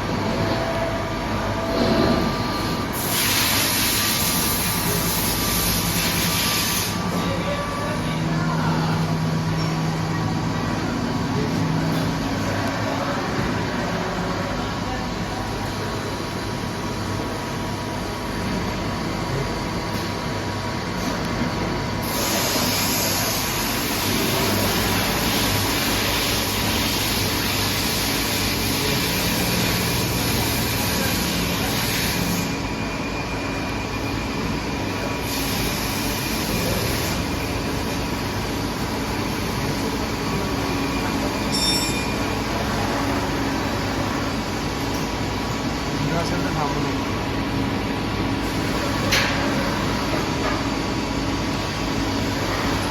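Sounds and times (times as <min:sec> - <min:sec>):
machinery whine: 0:00.0 - 0:52.9.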